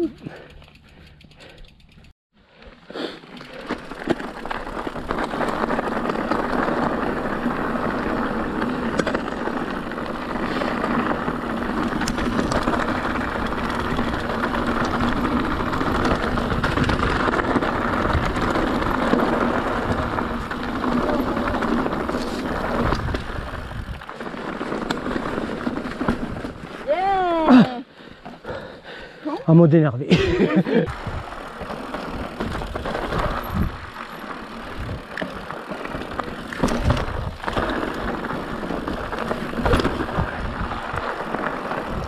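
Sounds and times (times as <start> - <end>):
bike tyres rolling on dirt: 0.0 - 29.2, 30.1 - 42.0.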